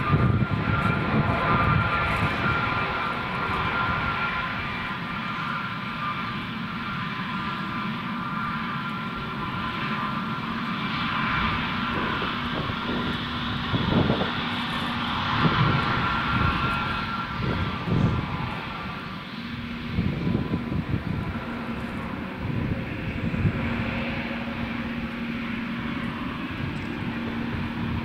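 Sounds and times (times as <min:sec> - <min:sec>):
jet engine whine and hiss: 0:00.0 - 0:28.0.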